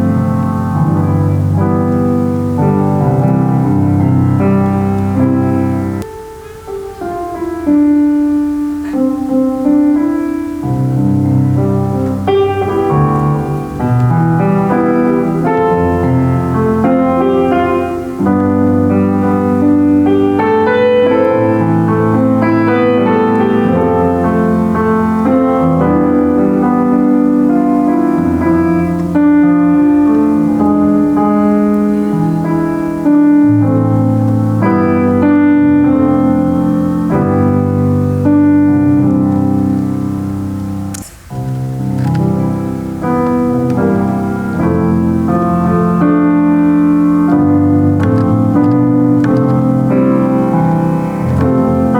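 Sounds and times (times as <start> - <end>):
solo piano chords: 0.0 - 51.9.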